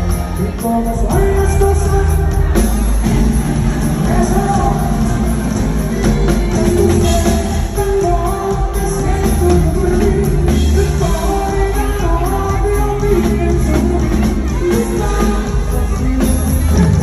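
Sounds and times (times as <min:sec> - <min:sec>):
heavy bass line: 0:00.0 - 0:17.0
live rock band playing: 0:00.0 - 0:17.0
person singing: 0:00.0 - 0:17.0.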